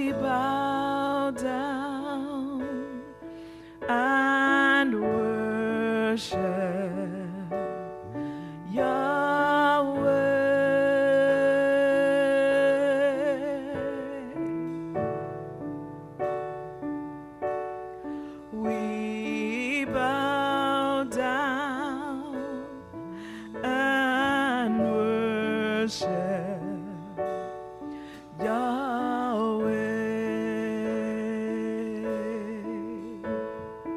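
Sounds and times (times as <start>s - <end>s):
woman singing gospel song: 0.0s - 15.3s, 18.4s - 27.4s, 28.0s - 33.7s.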